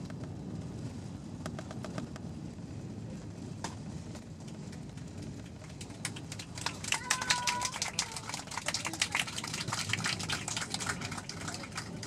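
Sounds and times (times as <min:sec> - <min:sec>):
airliner rolling rumble: 0:00.0 - 0:12.0.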